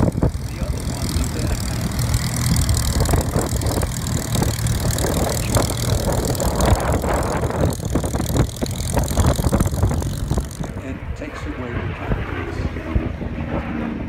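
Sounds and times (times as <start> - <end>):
piston aircraft engine idling: 0.0 - 12.2.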